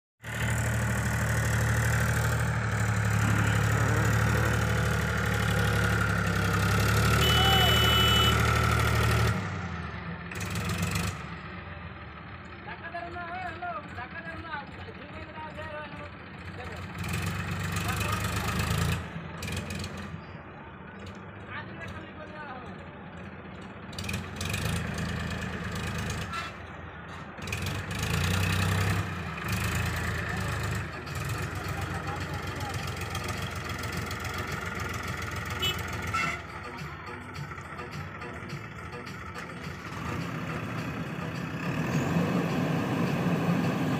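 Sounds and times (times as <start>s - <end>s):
backhoe diesel engine running: 0.2s - 43.9s.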